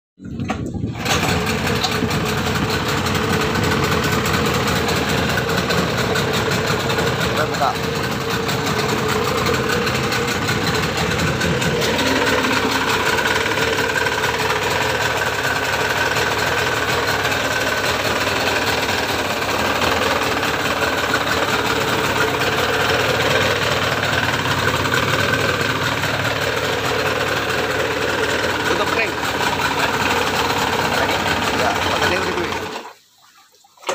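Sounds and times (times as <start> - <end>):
outboard motor running: 0.2 - 33.0.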